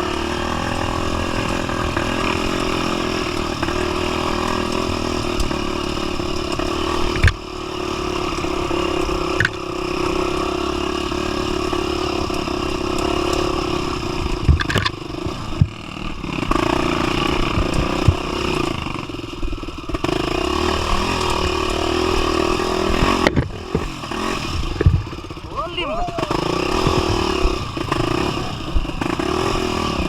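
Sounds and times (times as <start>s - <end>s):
motorcycle engine running: 0.0s - 30.0s
motorcycle knocking over rough ground: 0.1s - 7.5s, 8.2s - 25.5s, 26.2s - 30.0s.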